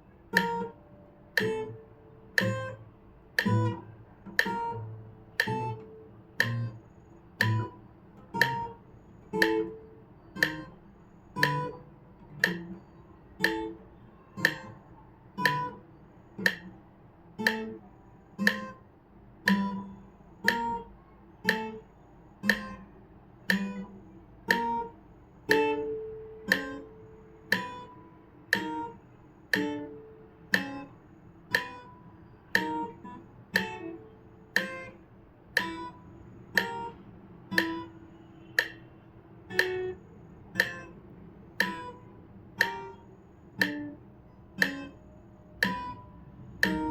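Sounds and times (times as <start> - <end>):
guitar plucked notes: 0.3 - 16.8, 17.4 - 46.9.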